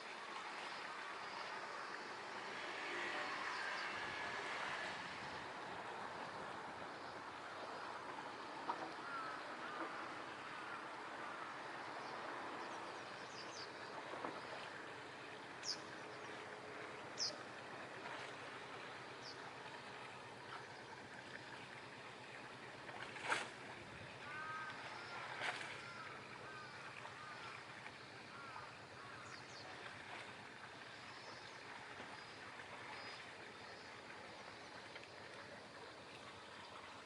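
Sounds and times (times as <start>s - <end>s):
water lapping against quay: 0.0s - 37.0s.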